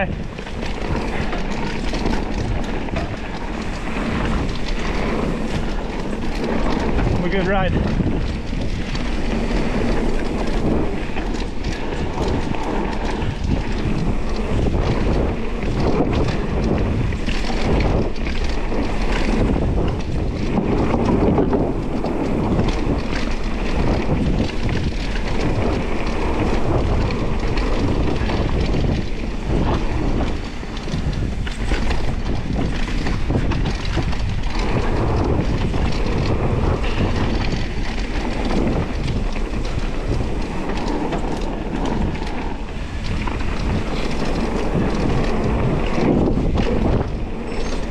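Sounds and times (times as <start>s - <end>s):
bike rattling over bumps: 0.0s - 47.9s
wind rushing over microphone: 0.0s - 47.9s.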